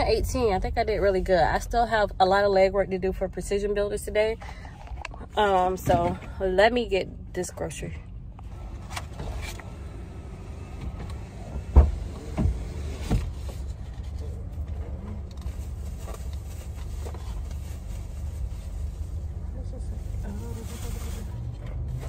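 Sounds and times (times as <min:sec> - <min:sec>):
car engine rumble: 0:00.0 - 0:22.0.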